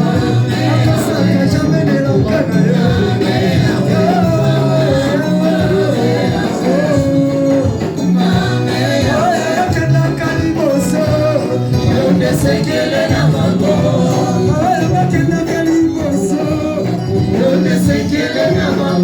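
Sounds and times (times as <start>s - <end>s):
bass line: 0.0s - 19.0s
worship song with band: 0.0s - 19.0s.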